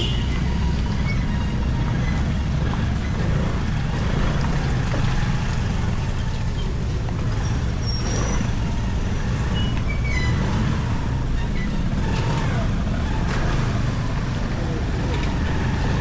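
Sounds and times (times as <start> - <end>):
motorcycle engine and road rumble: 0.0 - 16.0.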